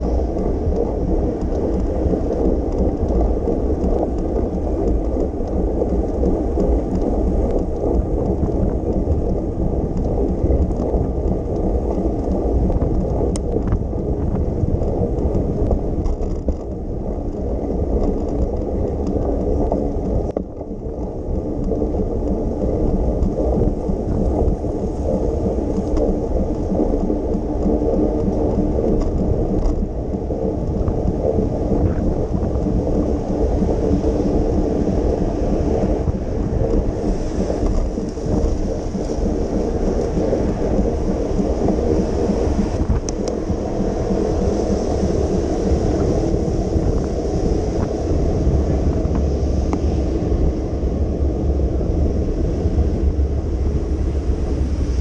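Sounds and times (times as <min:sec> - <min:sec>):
bicycle road noise rumbling: 0:00.0 - 0:55.0.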